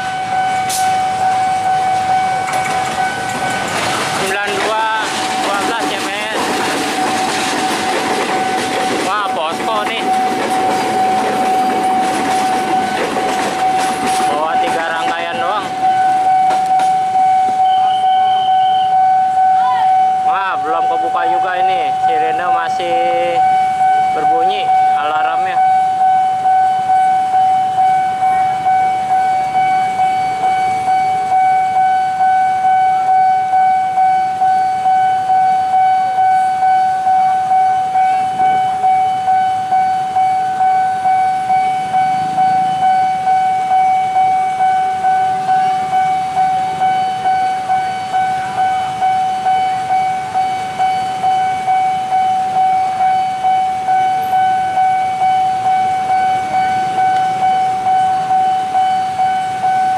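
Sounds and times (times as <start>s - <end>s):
level-crossing warning bell ringing: 0.0s - 59.9s
train carriages rumbling: 0.0s - 59.9s.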